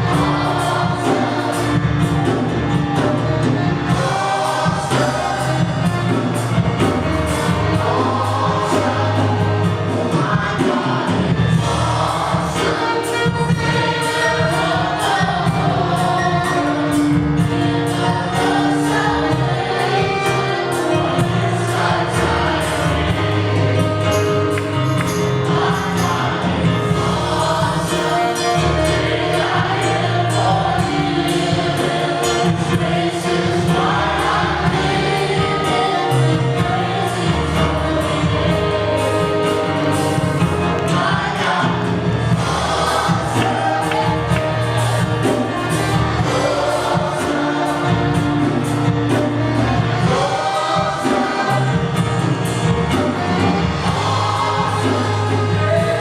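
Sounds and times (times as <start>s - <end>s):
band with steady beat and bass: 0.0s - 56.0s
congregation singing worship song: 0.0s - 56.0s.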